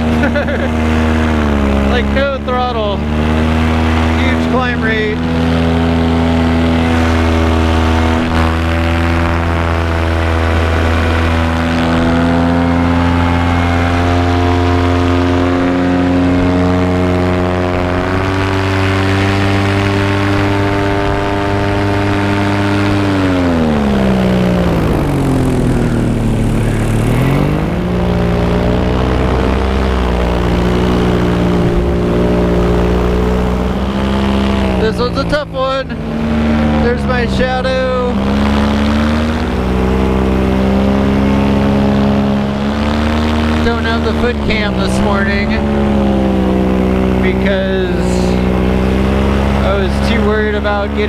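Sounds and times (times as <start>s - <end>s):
paramotor engine droning: 0.0s - 51.0s.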